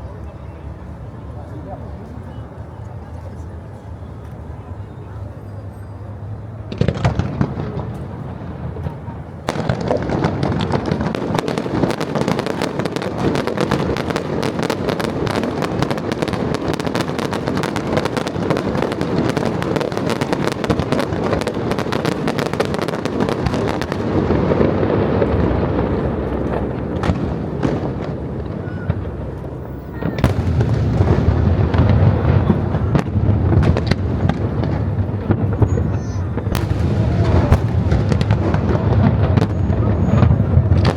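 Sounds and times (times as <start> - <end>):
low fireworks rumble: 0.0 - 40.9
fireworks crackling: 6.1 - 40.9
firework bangs: 6.6 - 40.9.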